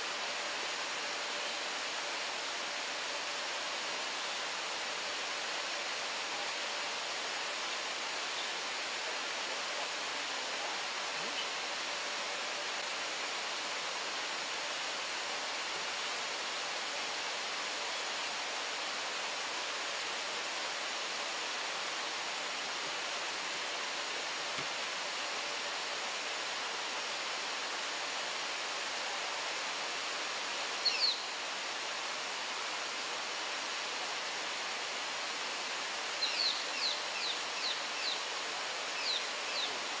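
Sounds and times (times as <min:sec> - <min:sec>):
running water hissing: 0:00.0 - 0:40.0.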